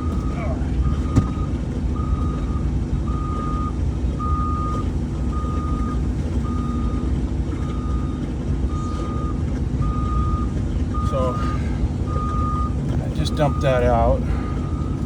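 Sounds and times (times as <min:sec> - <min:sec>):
backup alarm beeping: 0:00.0 - 0:15.0
engine rumbling: 0:00.0 - 0:15.0.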